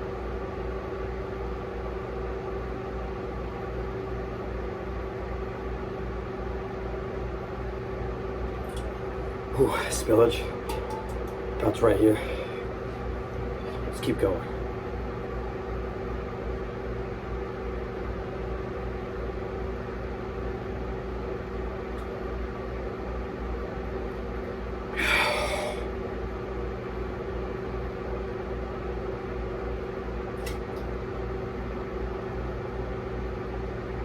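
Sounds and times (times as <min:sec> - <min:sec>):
fan hum: 0:00.0 - 0:34.0.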